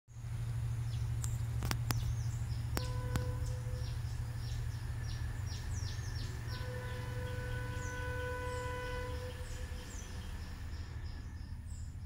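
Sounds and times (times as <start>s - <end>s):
steady low rumble: 0.1s - 8.0s, 9.2s - 12.0s
birds chirping: 0.1s - 12.0s.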